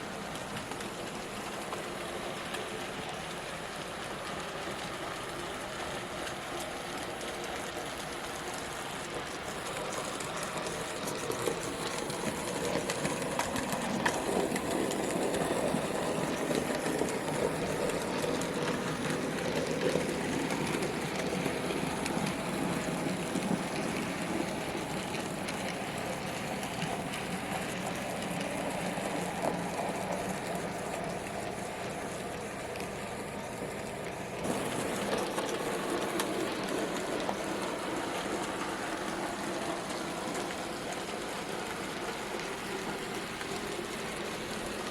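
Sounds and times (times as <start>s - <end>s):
wheels clicking on rails: 0.2s - 44.9s.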